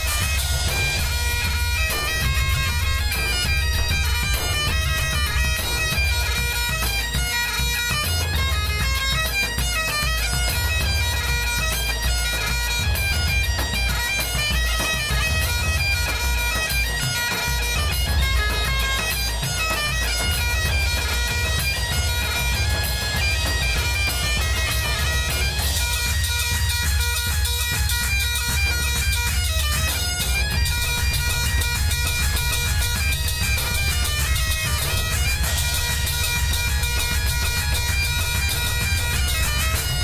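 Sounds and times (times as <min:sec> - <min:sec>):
bagpipe melody over drone: 0:00.0 - 0:40.0.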